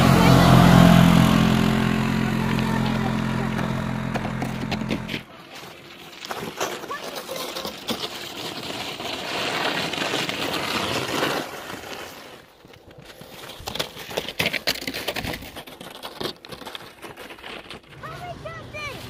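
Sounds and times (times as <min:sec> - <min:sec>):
plastic sled dragging: 0:00.0 - 0:19.0
scraping over snow: 0:02.1 - 0:19.0.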